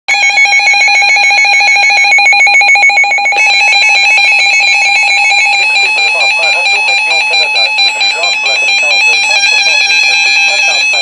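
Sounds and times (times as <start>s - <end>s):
high-pitched warning alarm tone: 0.1s - 11.0s.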